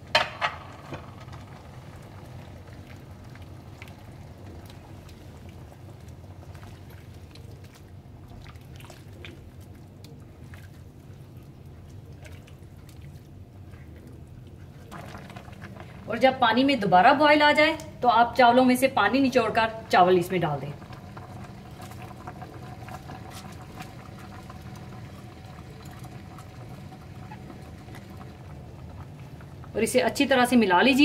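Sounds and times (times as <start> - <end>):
stock bubbling in a pan: 0.0 - 17.4, 19.1 - 31.0
low steady hum: 0.0 - 31.0.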